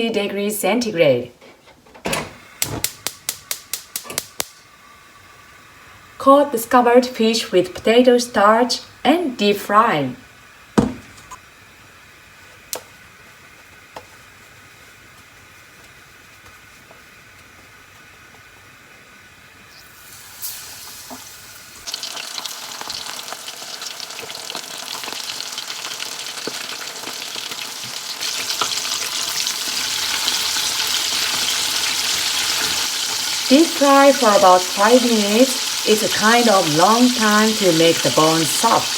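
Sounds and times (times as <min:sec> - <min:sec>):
oil sizzling and crackling: 0:02.4 - 0:06.2, 0:10.2 - 0:38.9.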